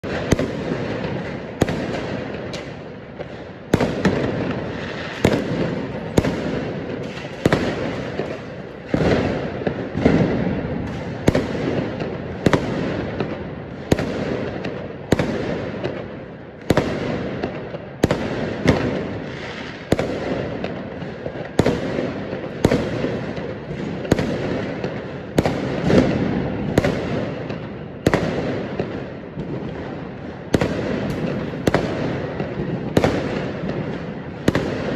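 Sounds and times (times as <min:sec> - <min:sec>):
fireworks bursting: 0:00.0 - 0:34.9
fireworks rumble and crackle: 0:00.0 - 0:34.9.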